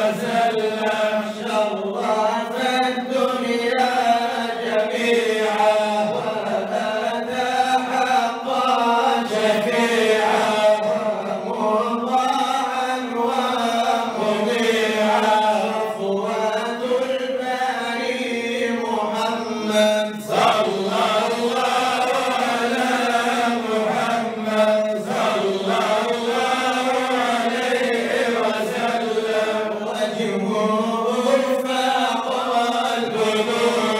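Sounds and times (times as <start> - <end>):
man singing into a microphone: 0.0 - 33.9
men chanting in unison: 0.0 - 33.9.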